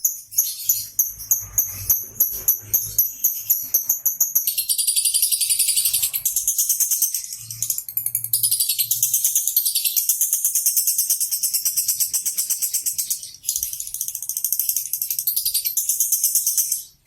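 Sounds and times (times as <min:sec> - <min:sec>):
lovebird chirping trill: 0:00.0 - 0:17.0.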